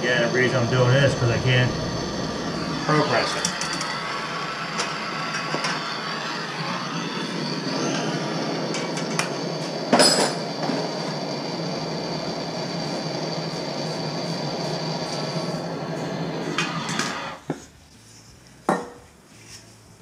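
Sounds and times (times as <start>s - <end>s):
torch flame hissing: 0.0s - 17.5s.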